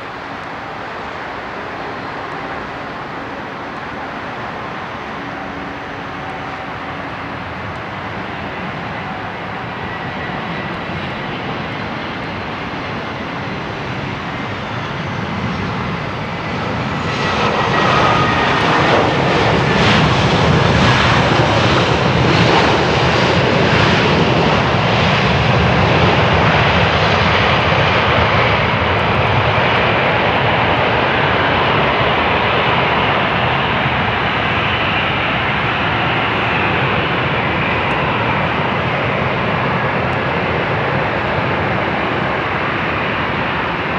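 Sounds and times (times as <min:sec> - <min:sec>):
jet engines passing close: 0:00.0 - 0:43.9.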